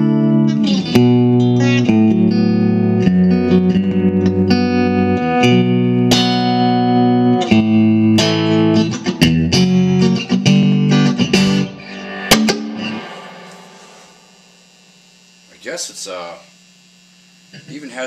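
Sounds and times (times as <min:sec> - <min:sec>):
electric guitar chords and notes: 0:00.0 - 0:15.5.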